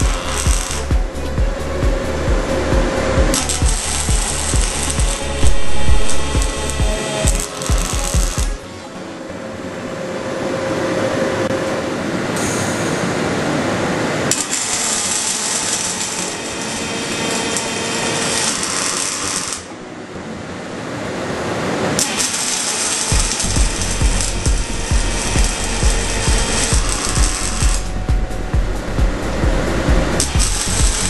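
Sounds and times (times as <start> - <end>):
welding arc buzzing hiss: 0.0 - 8.9, 12.3 - 19.8, 21.6 - 31.0.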